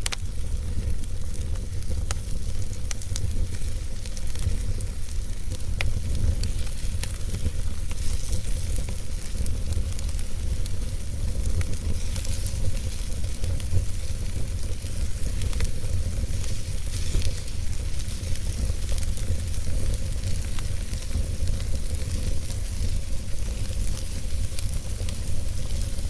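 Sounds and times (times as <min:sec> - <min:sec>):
wood fire burning: 0:00.0 - 0:26.0.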